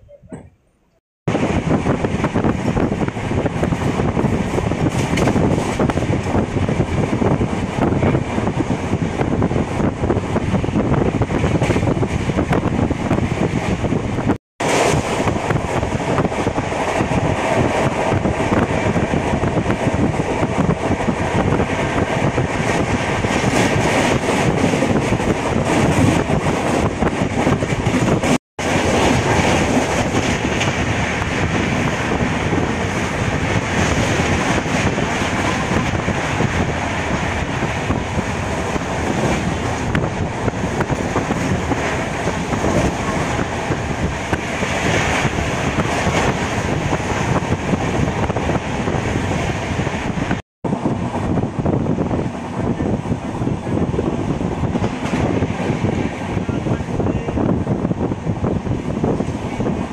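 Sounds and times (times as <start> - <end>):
train wheels rumbling on rails: 1.3 - 59.9.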